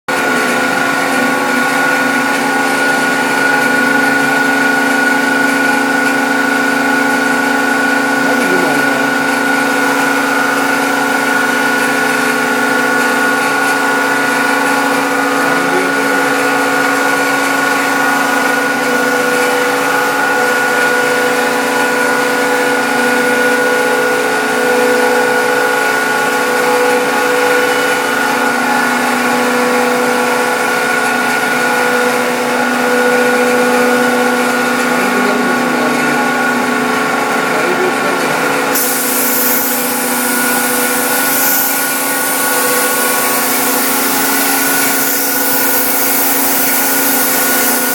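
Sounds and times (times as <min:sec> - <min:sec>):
woodworking machinery whine: 0:00.1 - 0:47.9.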